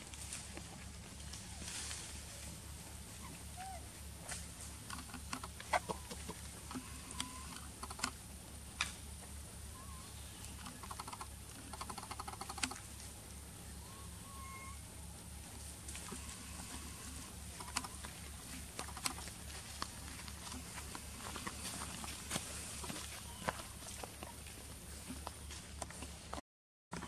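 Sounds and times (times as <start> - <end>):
animals moving over dry leaves: 0.0 - 26.4
steady low hum: 0.0 - 26.4.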